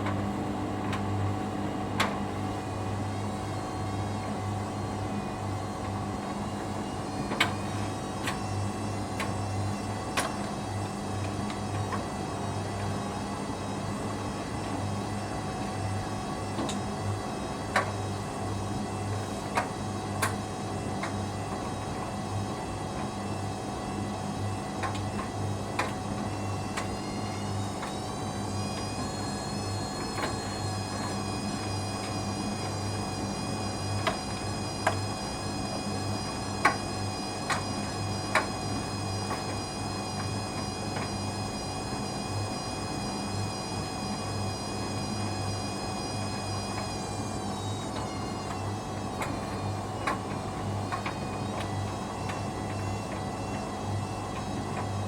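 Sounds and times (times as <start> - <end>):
washing machine motor humming: 0.0 - 55.0.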